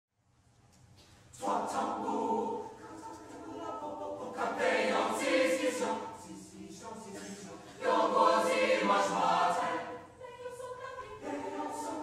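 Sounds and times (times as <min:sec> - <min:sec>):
mixed choir singing: 0:01.4 - 0:12.0.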